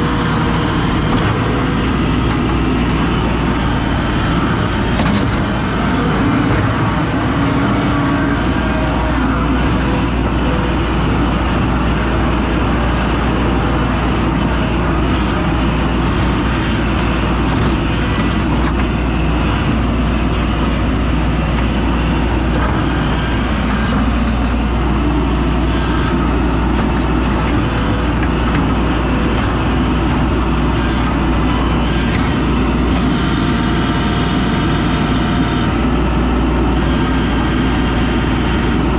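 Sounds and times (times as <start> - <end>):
skid steer engine humming: 0.0 - 38.9.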